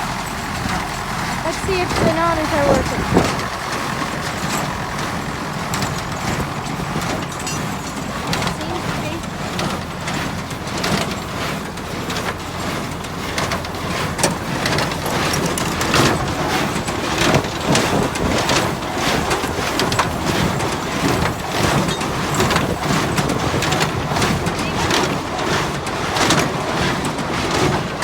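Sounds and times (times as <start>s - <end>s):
baler clattering and knocking: 0.0s - 28.0s
tractor diesel engine running: 0.0s - 28.0s.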